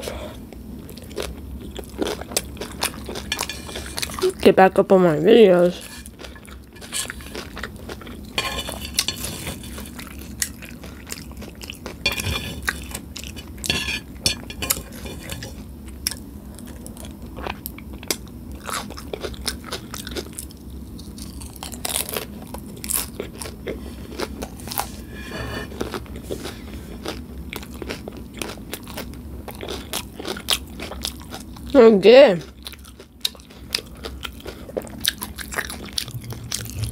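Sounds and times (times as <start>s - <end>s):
crunching and chewing chips: 0.0s - 4.5s, 5.6s - 36.9s.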